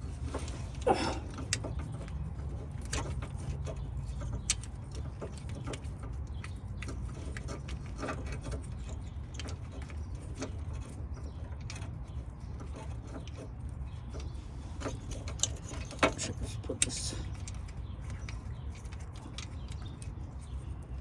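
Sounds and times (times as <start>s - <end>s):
small clicks and taps: 1.3s - 21.0s.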